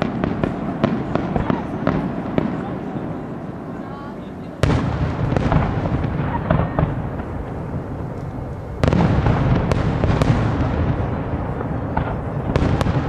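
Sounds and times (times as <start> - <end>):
fireworks bursting with bangs: 0.0 - 13.0
fireworks rumble and crackle: 0.0 - 13.0.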